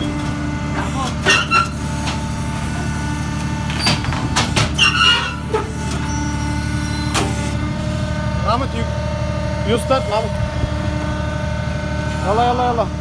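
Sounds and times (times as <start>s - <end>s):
hydraulic motor and pump hum: 0.0s - 13.0s.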